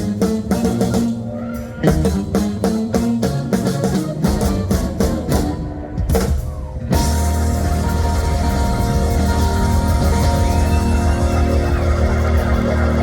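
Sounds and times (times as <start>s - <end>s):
live blues band playing: 0.0s - 13.0s.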